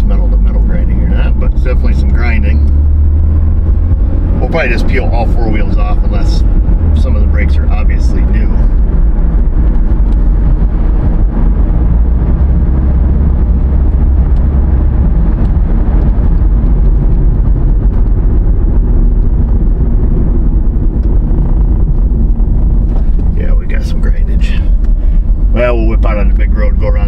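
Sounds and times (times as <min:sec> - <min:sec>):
tyre and road noise: 0:00.0 - 0:27.0.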